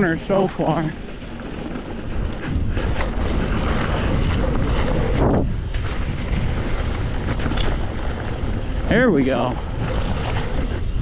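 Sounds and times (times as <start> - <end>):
bike rumbling over dirt: 0.0 - 11.0
wind buffeting microphone: 0.0 - 11.0.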